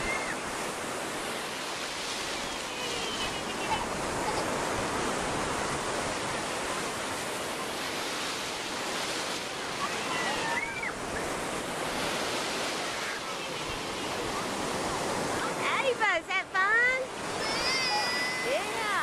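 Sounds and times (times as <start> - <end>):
gentle surf on sand: 0.0 - 19.0.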